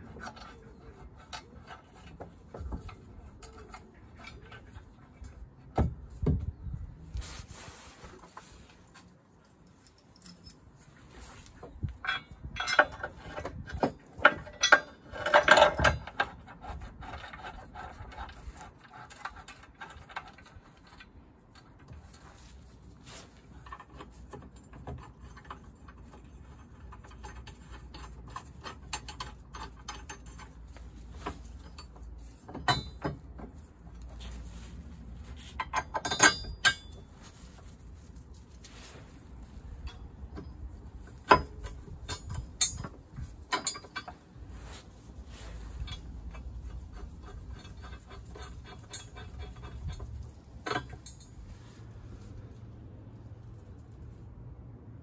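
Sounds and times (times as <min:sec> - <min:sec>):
metal parts clinking and knocking: 0:00.0 - 0:06.5, 0:08.4 - 0:52.6.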